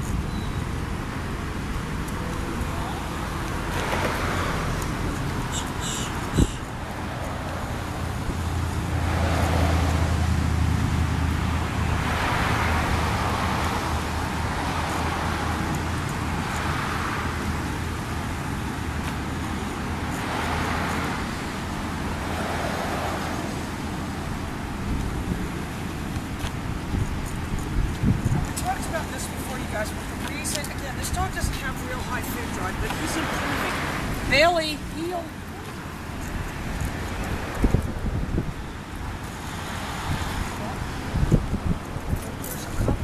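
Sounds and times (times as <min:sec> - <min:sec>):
vehicles passing: 0:00.0 - 0:43.0.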